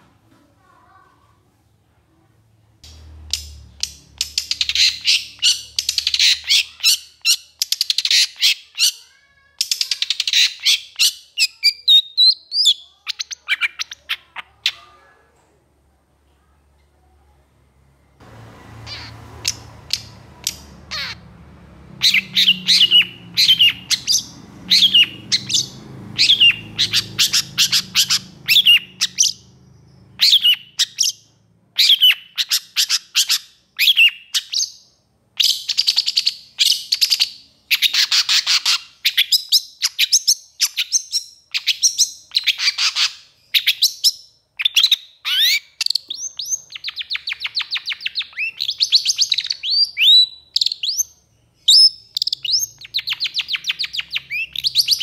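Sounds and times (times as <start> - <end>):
bird singing harsh chattering notes: 2.8 - 14.8, 18.7 - 21.3, 21.9 - 55.0.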